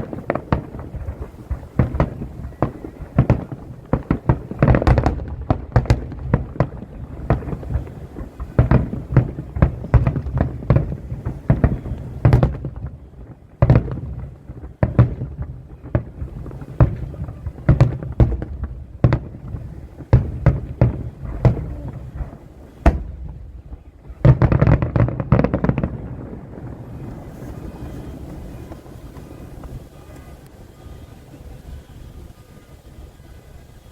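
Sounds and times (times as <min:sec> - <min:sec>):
fireworks bangs echoing: 0:00.0 - 0:33.9.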